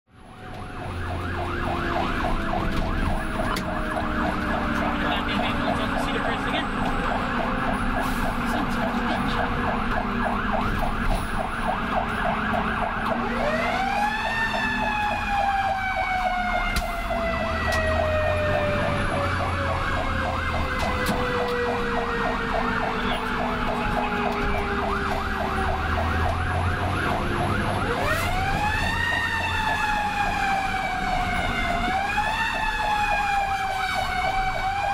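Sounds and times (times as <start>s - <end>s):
fast-pulsing electronic siren: 0.2s - 34.9s
truck engine rumbling: 0.2s - 34.9s.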